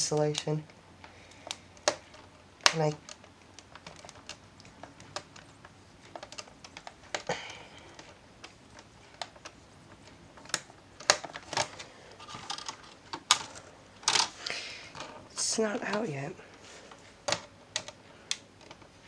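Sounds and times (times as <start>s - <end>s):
scraping rustles: 0.0s - 19.0s
plastic case clicking and tapping: 1.0s - 15.2s, 17.2s - 18.9s.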